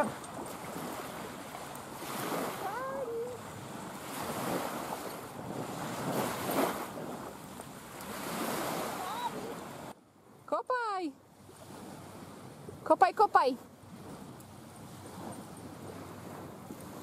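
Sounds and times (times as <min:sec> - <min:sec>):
wind buffeting microphone: 0:00.0 - 0:09.9, 0:11.4 - 0:17.0
waves washing onto sand: 0:00.0 - 0:10.4, 0:13.4 - 0:17.0.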